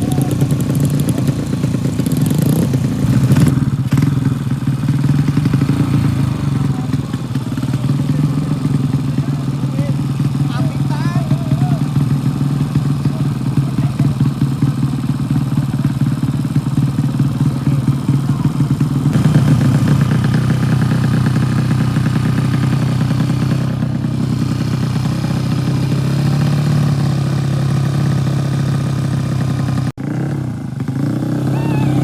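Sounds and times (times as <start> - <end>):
racing motorcycle engines: 0.0 - 32.0.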